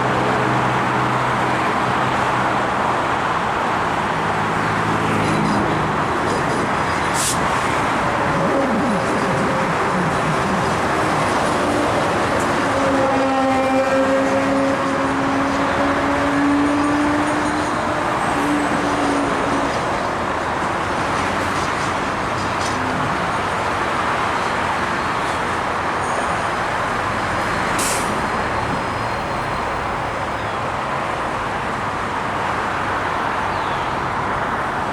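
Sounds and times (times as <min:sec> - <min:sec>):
train wheels rushing on rails: 0:00.0 - 0:30.3.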